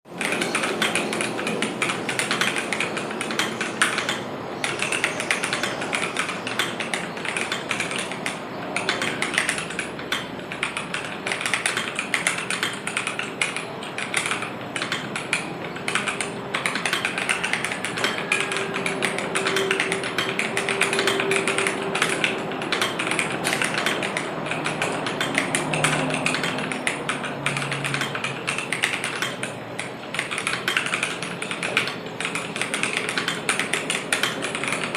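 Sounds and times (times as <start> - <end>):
fast mechanical keyboard typing: 0.1 - 34.9.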